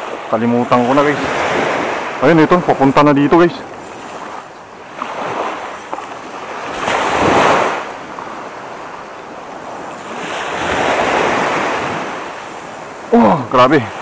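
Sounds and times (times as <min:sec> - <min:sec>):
small waves washing onto beach: 0:00.0 - 0:14.0.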